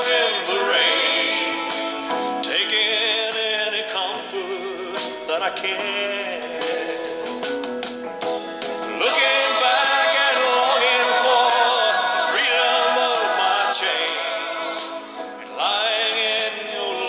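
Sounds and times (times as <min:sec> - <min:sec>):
slow ballad music: 0:00.0 - 0:17.0.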